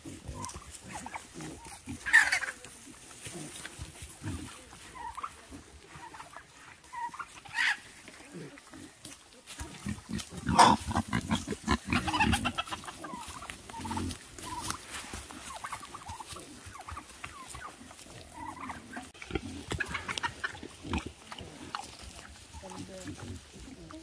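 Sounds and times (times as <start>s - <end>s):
pigs grunting: 0.0s - 24.0s.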